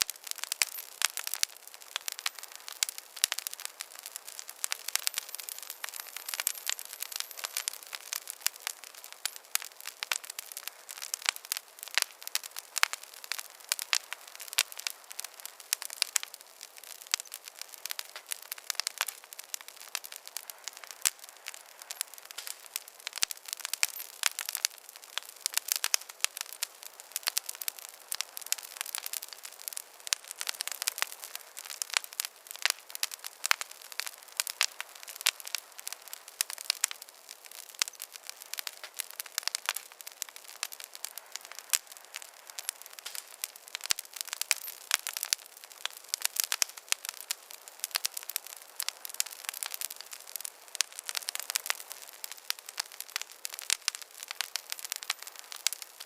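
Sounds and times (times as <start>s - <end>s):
campfire crackling and popping: 0.0s - 56.0s
soft hiss: 0.0s - 56.0s.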